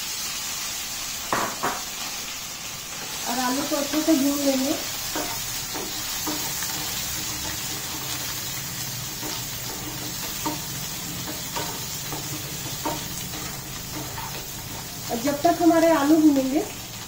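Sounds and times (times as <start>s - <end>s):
potatoes sizzling in oil: 0.0s - 17.0s.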